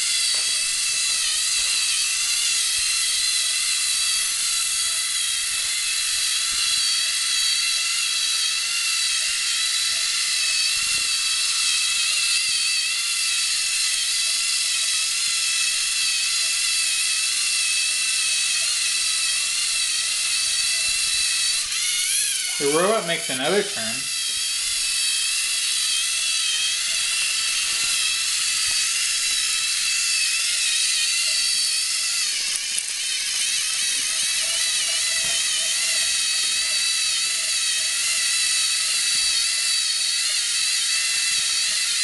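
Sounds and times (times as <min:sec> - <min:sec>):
electric motors whining: 0:00.0 - 0:42.0.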